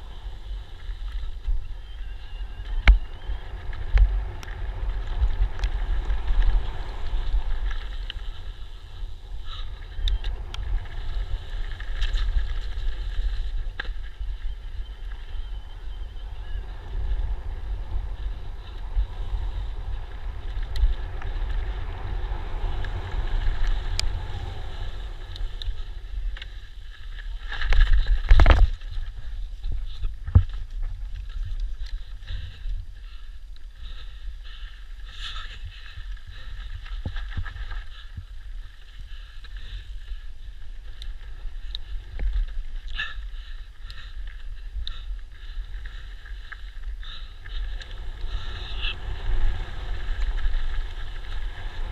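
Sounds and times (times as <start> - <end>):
tyres on dirt: 0.0 - 51.9
wind buffeting microphone: 0.0 - 51.9.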